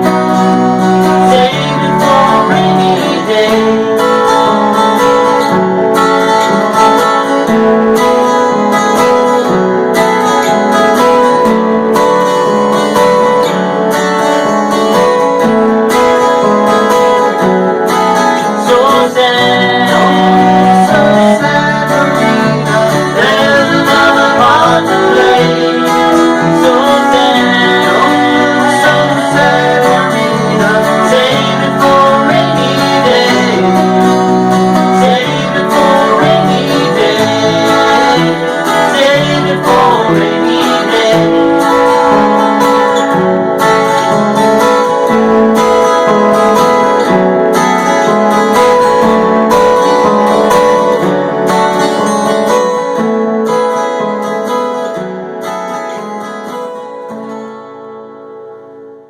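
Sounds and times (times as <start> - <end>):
strummed acoustic guitars: 0.0 - 59.0.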